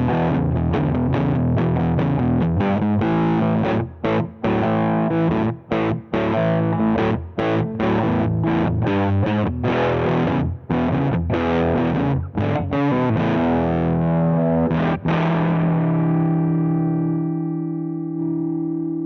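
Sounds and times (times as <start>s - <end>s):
distorted electric guitar chords: 0.0s - 19.0s.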